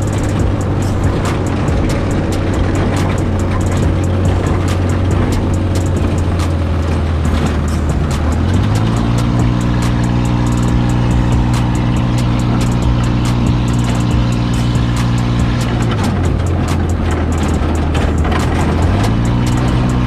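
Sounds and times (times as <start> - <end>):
buggy engine running: 0.0 - 20.0
rattles and knocks over rough ground: 0.0 - 20.0.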